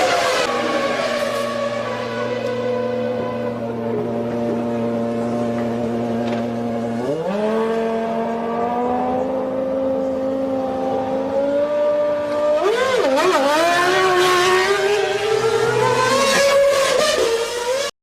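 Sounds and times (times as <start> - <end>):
racing car engine revving: 0.0 - 17.9.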